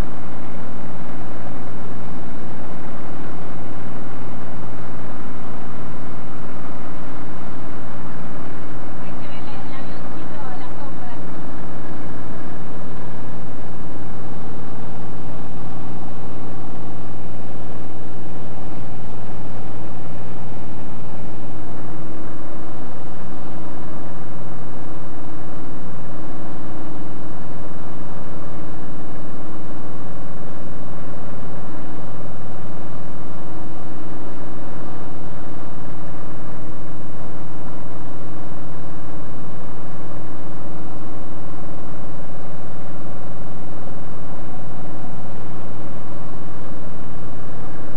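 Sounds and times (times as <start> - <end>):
light aircraft engine droning: 0.0 - 47.9.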